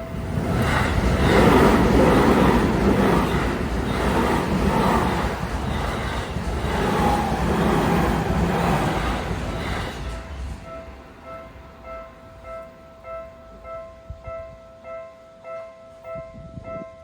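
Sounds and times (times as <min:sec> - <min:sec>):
electric train passing: 0:00.0 - 0:16.7.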